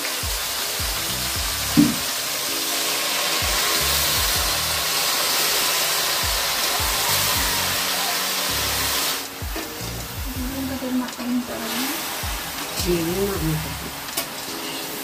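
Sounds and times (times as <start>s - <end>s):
fruit sizzling in a wok: 0.0s - 15.0s.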